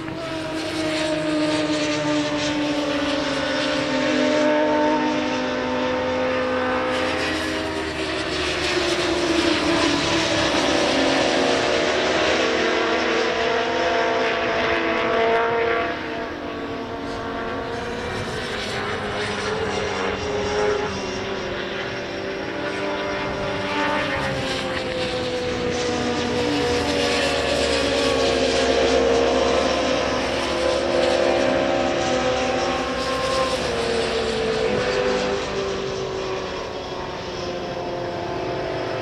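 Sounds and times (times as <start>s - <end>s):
racing motorcycles passing: 0.0s - 39.0s.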